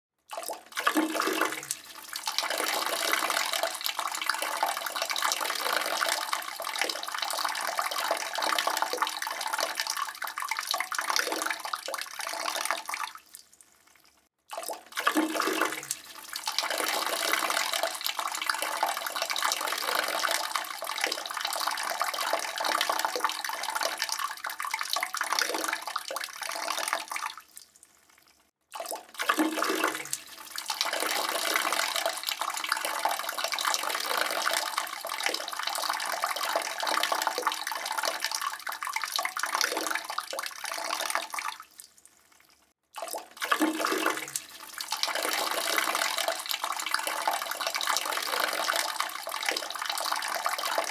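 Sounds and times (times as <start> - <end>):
urine stream splashing into toilet: 0.4 - 13.0, 14.6 - 27.3, 28.9 - 41.6, 43.0 - 50.9.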